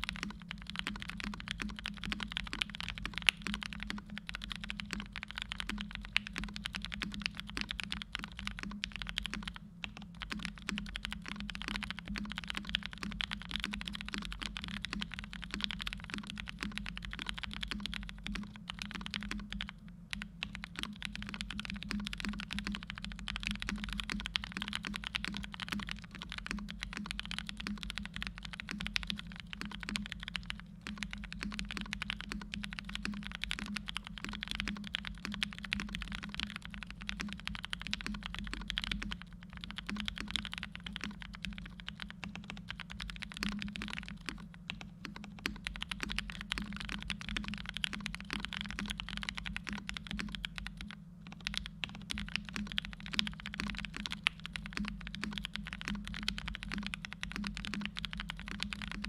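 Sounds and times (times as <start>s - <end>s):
mechanical keyboard typing: 0.0s - 59.0s.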